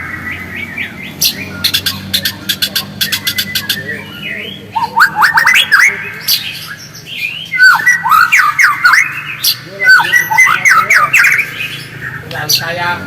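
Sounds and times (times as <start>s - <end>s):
bird chirps and whistles: 0.0s - 12.2s.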